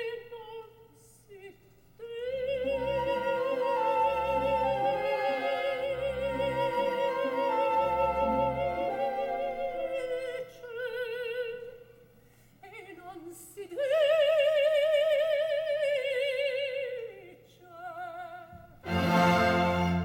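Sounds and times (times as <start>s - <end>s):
operatic soprano singing: 0.0s - 12.0s, 12.6s - 20.0s.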